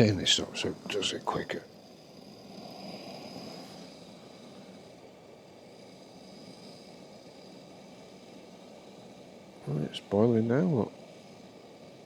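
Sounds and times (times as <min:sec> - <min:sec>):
camping stove burner hissing: 0:00.0 - 0:12.0.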